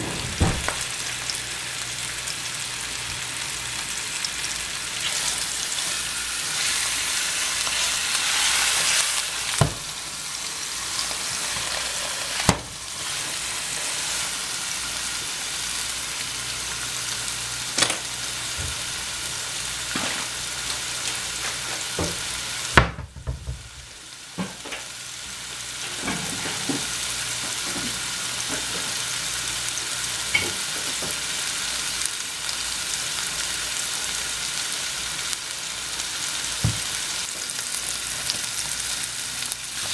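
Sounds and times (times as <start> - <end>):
meat sizzling in a skillet: 0.6 - 22.8, 23.6 - 39.9.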